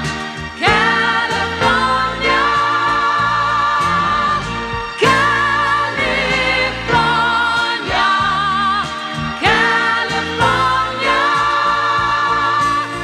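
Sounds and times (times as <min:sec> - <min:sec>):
instrumental accompaniment: 0:00.0 - 0:13.0
woman singing pop song: 0:00.6 - 0:13.0.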